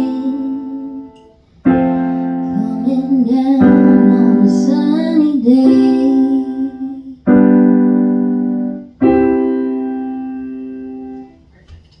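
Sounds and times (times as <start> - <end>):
piano chords: 0.0 - 11.6.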